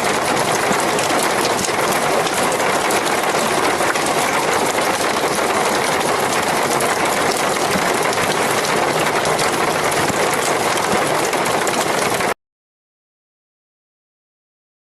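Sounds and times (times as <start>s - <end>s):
heavy rain falling: 0.0s - 12.4s.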